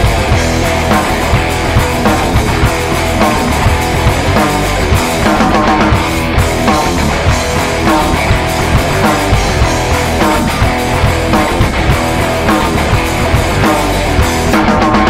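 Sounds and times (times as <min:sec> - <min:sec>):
alternative rock band playing: 0:00.0 - 0:15.0.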